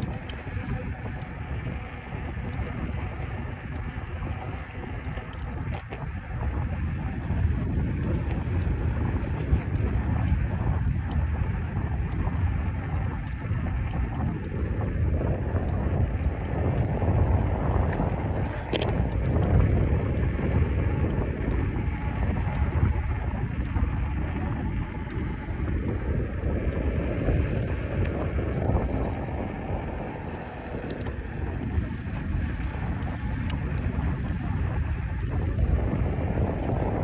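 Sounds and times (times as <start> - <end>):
faint ticks: 0.0 - 36.0
wind buffeting microphone: 0.0 - 37.0.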